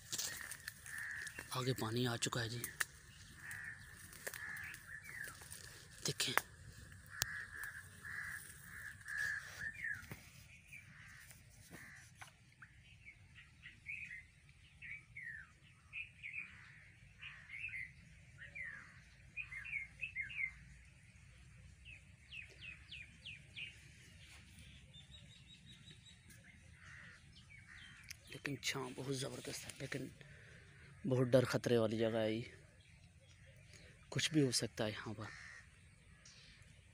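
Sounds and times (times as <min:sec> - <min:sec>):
small birds chirping: 0:00.0 - 0:36.9.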